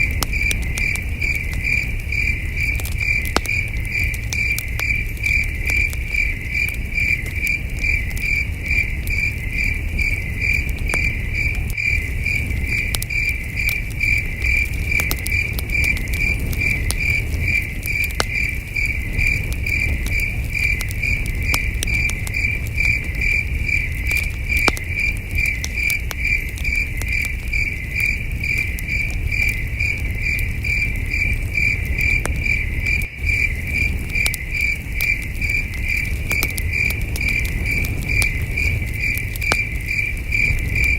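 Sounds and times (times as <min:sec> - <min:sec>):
campfire crackling and popping: 0:00.0 - 0:40.9
crickets chirping: 0:00.0 - 0:40.9.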